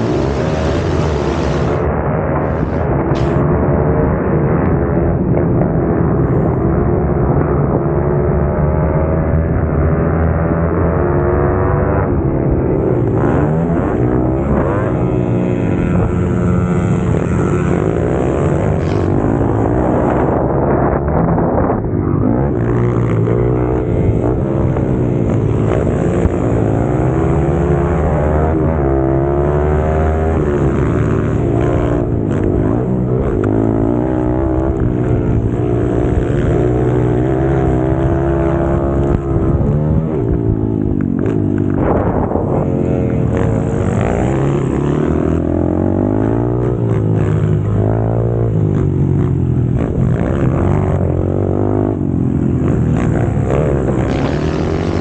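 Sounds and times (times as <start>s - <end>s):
pit bike engine revving: 0.0s - 4.9s, 8.6s - 55.0s.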